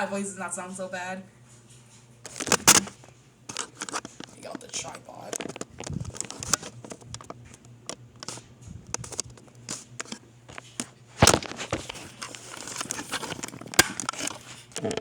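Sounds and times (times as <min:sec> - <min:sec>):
faint steady hum: 0:00.0 - 0:15.0
camera handling noise: 0:02.2 - 0:15.0.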